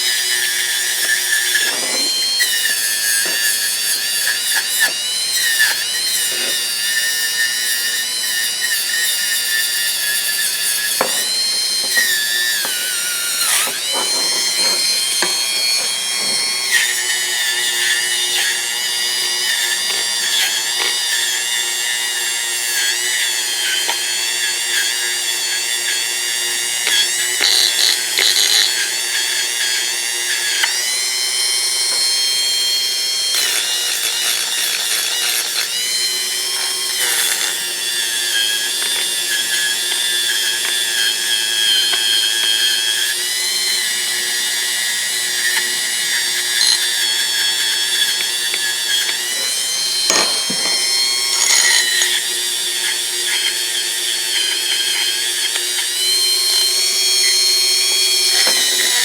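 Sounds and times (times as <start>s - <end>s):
rotary tool grinding metal: 0.0s - 59.0s.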